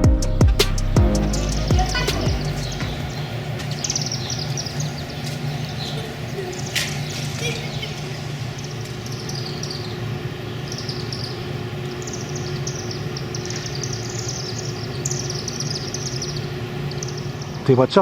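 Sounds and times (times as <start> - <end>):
steady low hum: 0.0 - 17.7
swifts chittering: 0.2 - 17.6.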